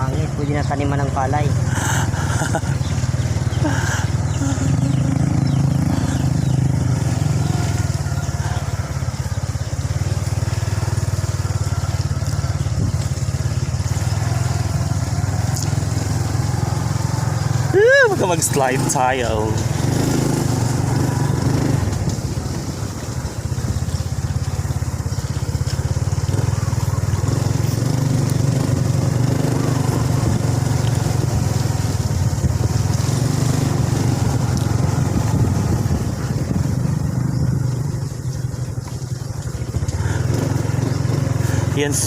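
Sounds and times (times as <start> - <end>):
small vehicle engine driving: 0.0 - 42.0.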